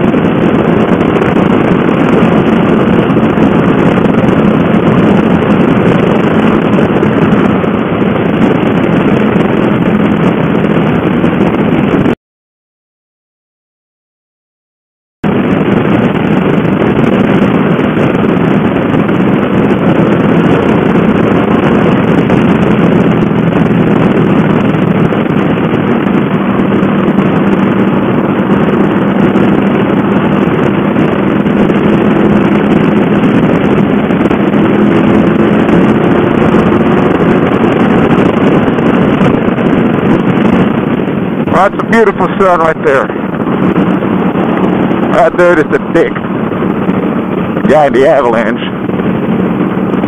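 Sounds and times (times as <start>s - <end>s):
motorcycle engine cruising: 0.0s - 12.2s, 15.2s - 50.0s
wind rushing on microphone: 0.0s - 12.2s, 15.2s - 50.0s.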